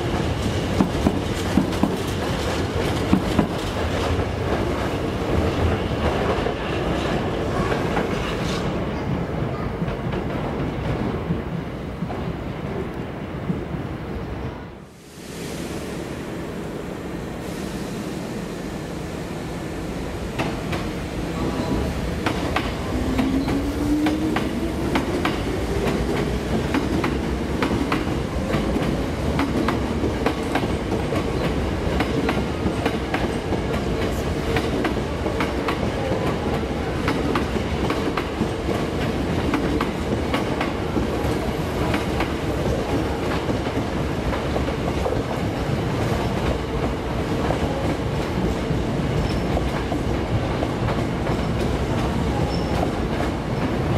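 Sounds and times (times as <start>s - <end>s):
train wheels click-clack: 0.0s - 12.3s, 20.3s - 53.9s.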